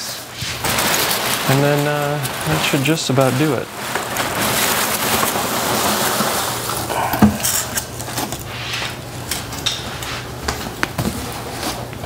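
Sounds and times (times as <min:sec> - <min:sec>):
packing peanuts rustling: 0:00.0 - 0:12.0.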